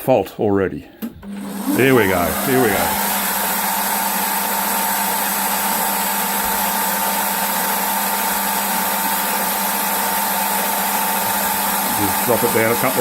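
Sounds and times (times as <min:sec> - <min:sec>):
milling machine spindle motor: 0:01.2 - 0:13.0.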